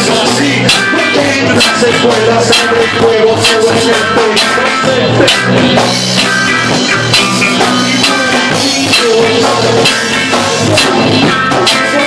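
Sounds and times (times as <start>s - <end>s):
reggae band playing: 0.0s - 12.0s.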